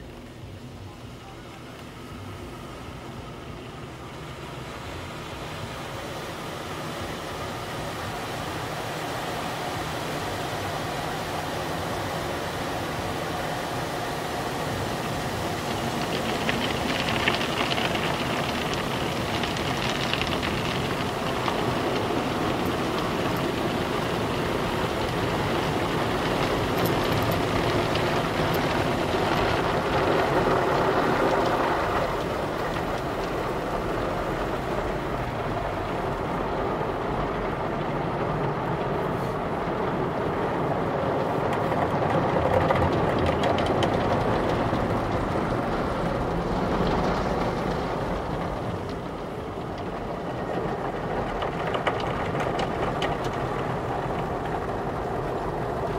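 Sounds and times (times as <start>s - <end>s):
car wash machinery rumble: 0.0s - 55.9s
water spraying on car: 2.0s - 55.9s.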